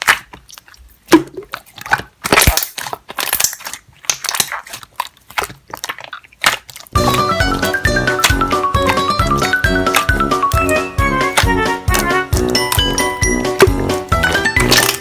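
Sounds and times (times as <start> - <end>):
slime squeezed by hand: 0.0 - 15.0.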